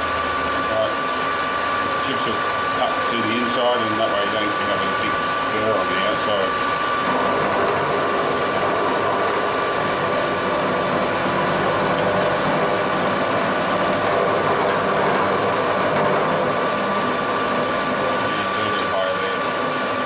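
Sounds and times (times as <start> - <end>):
end mill cutting metal: 0.0 - 20.0
milling machine whine: 0.0 - 20.0.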